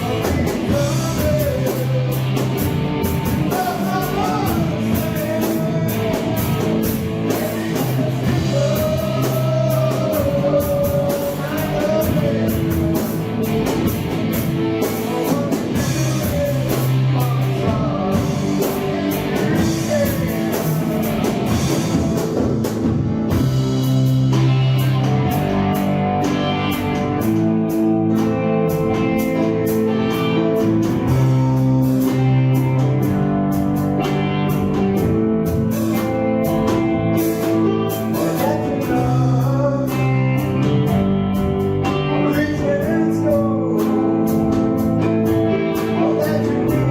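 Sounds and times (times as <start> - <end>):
bass guitar: 0.0 - 46.9
drum kit: 0.0 - 46.9
electric guitar: 0.0 - 46.9.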